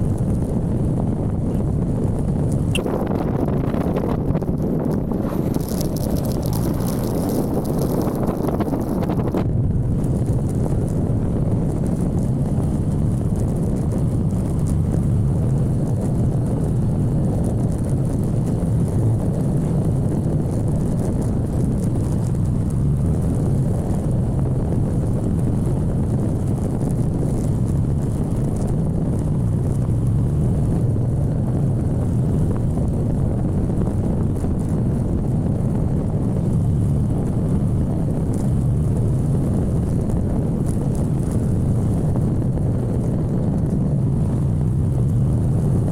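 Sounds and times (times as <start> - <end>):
motorcycle engine drone: 0.0 - 45.9
wind rush: 0.0 - 45.9.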